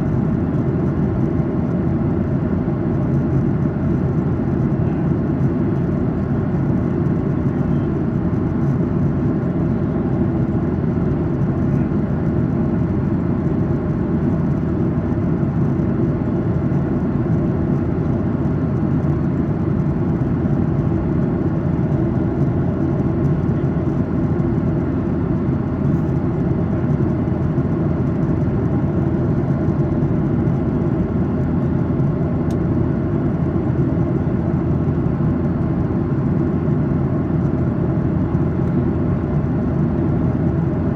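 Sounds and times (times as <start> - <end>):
faint hum: 0.0 - 40.9
jet engine drone: 0.0 - 40.9.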